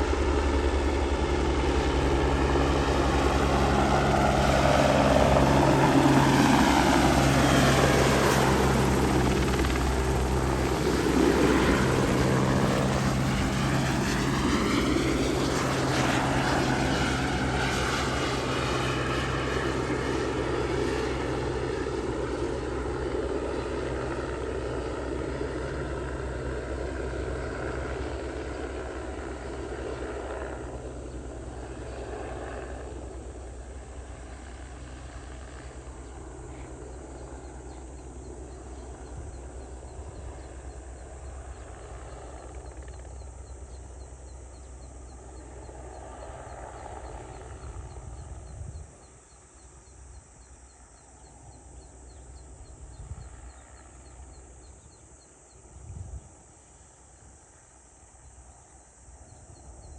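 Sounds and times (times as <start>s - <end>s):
helicopter rotor and engine hum: 0.0s - 59.9s
rural outdoor ambience: 0.0s - 59.9s.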